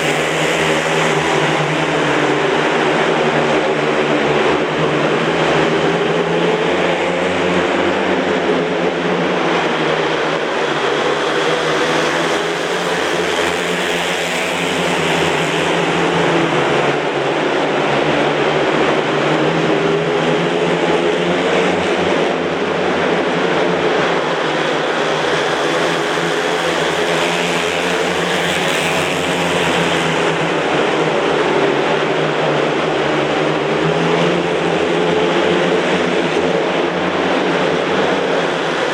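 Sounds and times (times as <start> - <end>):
motorcycles racing: 0.0 - 38.9.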